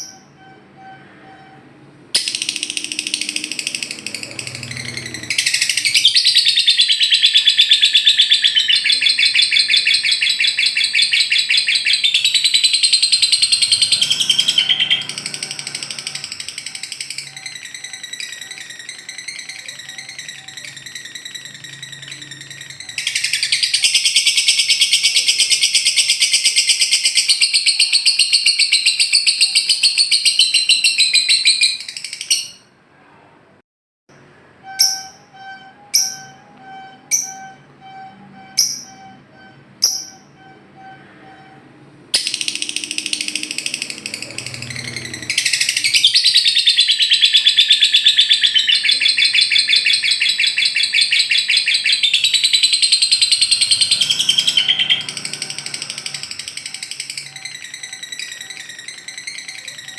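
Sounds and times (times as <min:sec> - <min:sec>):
lovebird chattering trill: 0:02.2 - 0:32.6, 0:42.2 - 0:59.9
sharp bird chirps: 0:02.2 - 0:32.7, 0:34.6 - 0:41.5, 0:42.2 - 0:59.9.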